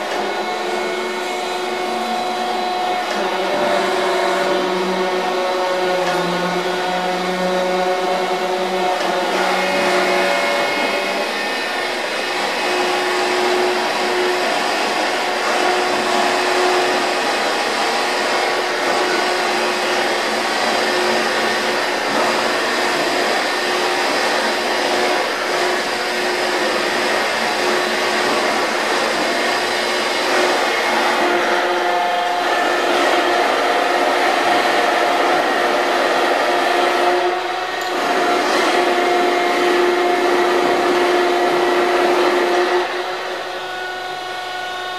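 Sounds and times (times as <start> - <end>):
grinder motor whirr: 0.0 - 44.9
steady humming tone: 0.0 - 44.9.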